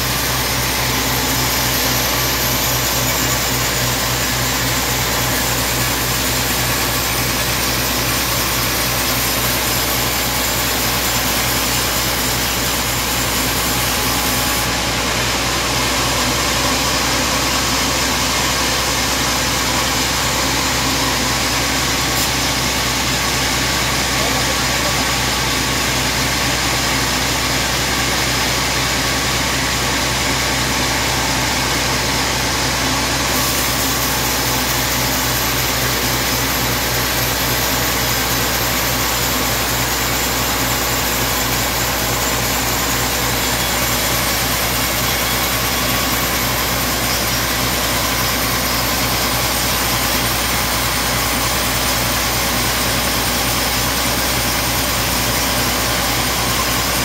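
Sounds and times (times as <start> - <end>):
band saw running: 0.0 - 57.0.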